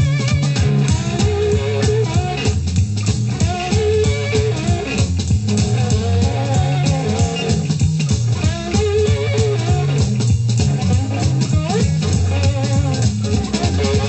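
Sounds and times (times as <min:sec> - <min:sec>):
bass line: 0:00.0 - 0:14.0
drums: 0:00.0 - 0:14.0
slide guitar: 0:00.0 - 0:14.0.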